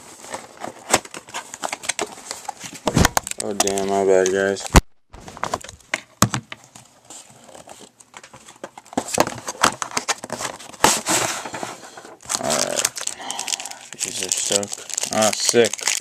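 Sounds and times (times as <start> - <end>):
cardboard and foil rustling: 0.0 - 4.6, 6.7 - 16.0.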